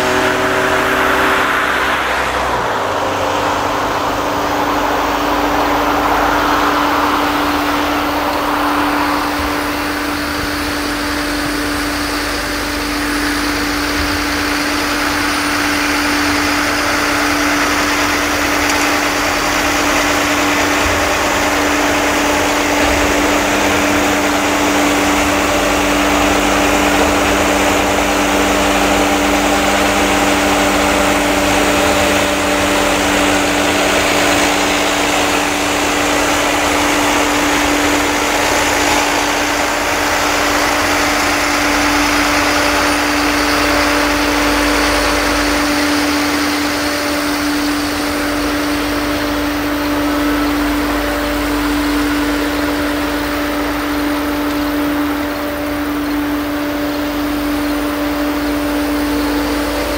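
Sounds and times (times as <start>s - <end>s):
engine droning steadily: 0.0s - 59.9s.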